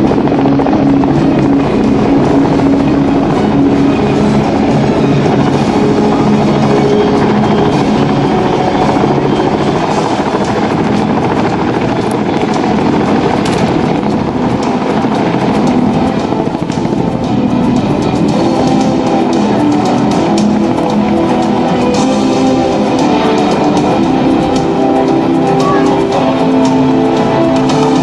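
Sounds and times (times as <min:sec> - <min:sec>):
helicopters running: 0:00.0 - 0:28.0
loud music: 0:00.0 - 0:28.0.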